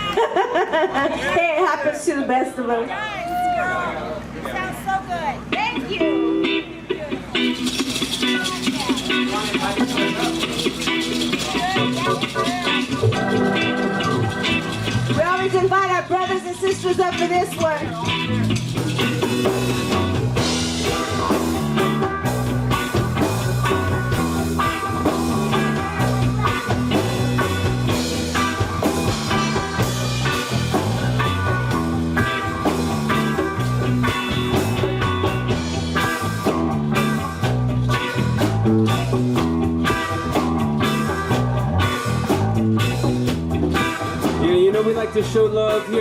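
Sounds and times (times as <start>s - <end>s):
electric guitar: 3.3s - 46.0s
steady drum beat: 5.5s - 46.0s
repeating bass line: 6.0s - 46.0s.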